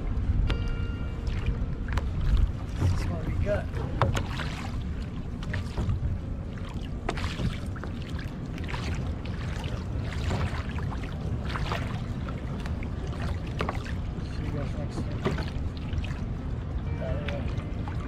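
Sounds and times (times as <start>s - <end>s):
waves lapping against hull: 0.0s - 18.0s
wind buffeting microphone: 0.0s - 18.0s.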